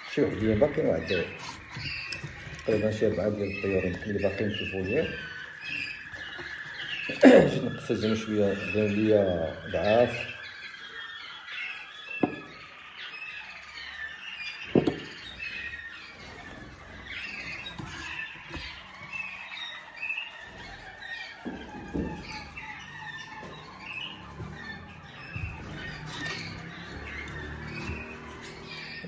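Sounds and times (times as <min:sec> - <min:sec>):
canaries chirping: 0:00.0 - 0:29.0.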